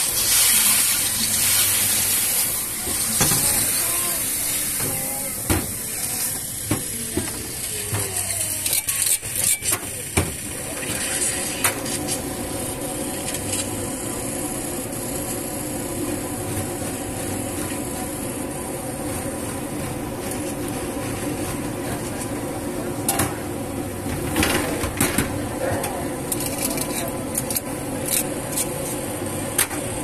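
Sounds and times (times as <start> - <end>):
burner hissing: 0.0 - 24.2.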